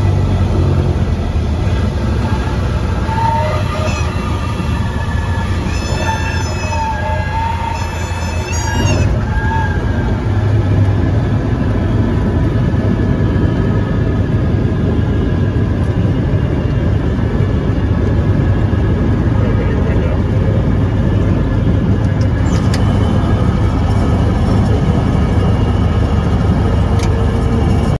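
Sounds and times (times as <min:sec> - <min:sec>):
aircraft engine drone: 0:00.0 - 0:28.0
rushing noise: 0:00.0 - 0:28.0.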